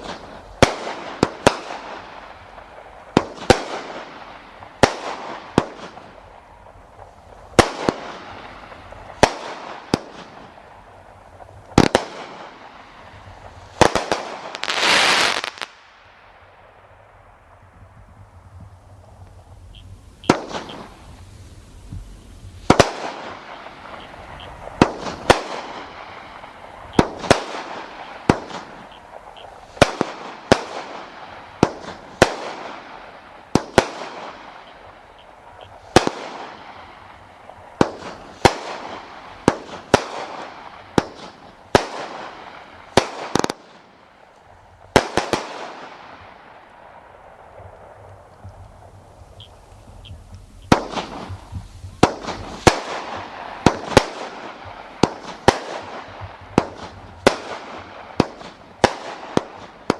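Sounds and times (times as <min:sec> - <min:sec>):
firework reports with hiss: 0:00.0 - 0:59.9.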